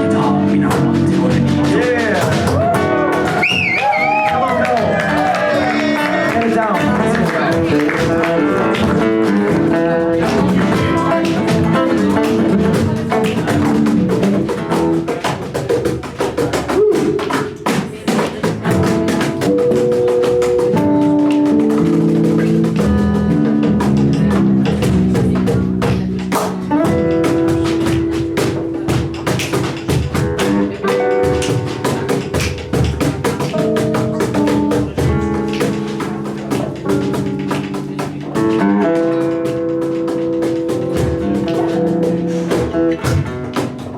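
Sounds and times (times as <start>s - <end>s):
drum kit beat: 0.0s - 43.9s
electric guitar: 0.0s - 43.9s.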